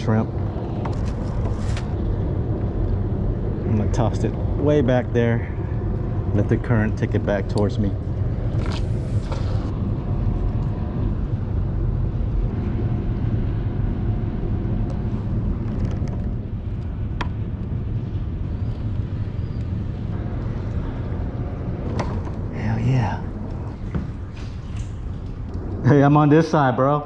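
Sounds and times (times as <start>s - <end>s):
outdoor low rumble: 0.0s - 27.0s.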